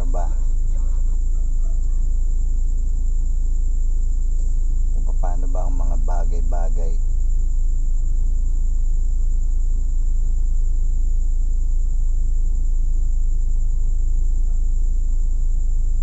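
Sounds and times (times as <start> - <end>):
car engine idling: 0.0 - 16.0
high-pitched whine: 0.0 - 16.0.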